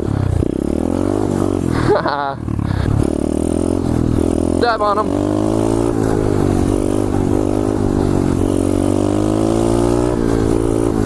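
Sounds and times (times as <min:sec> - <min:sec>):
pit bike engine running: 0:00.0 - 0:11.0.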